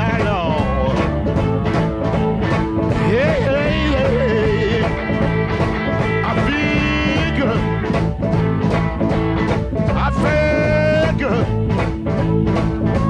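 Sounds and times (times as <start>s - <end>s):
blues boogie guitar: 0.0s - 13.0s.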